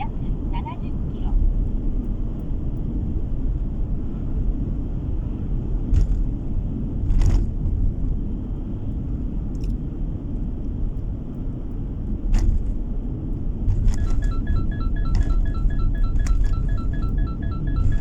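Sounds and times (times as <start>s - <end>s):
car road and tyre rumble: 0.0s - 18.0s.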